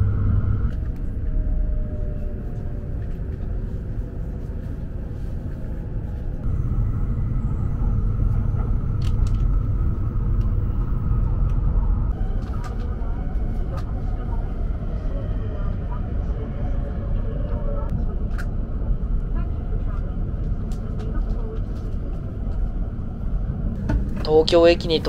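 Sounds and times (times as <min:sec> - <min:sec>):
train cabin rumble: 0:00.0 - 0:25.0.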